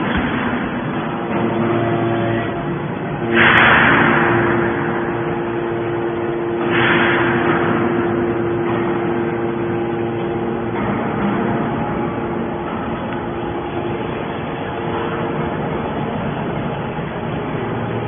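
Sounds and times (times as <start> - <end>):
hydraulic baler press humming: 0.0 - 18.0
loud noisy surges: 0.0 - 18.0.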